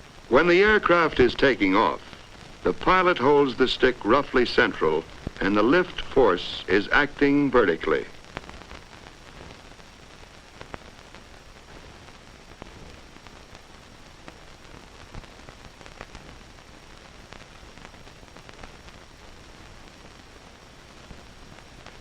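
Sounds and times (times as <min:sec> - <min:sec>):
faint clicks and crackles: 0:00.0 - 0:22.0
film soundtrack hiss: 0:00.0 - 0:22.0.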